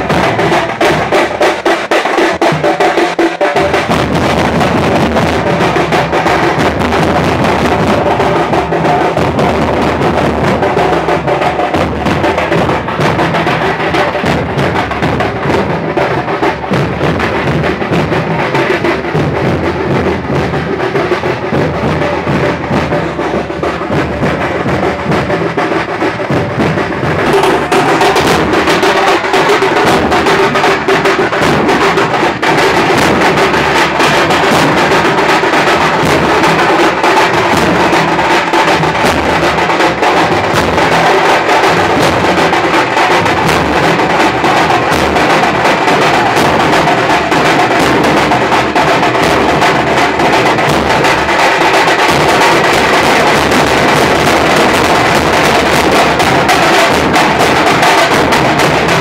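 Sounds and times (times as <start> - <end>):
loud live drumming: 0.0 - 59.0.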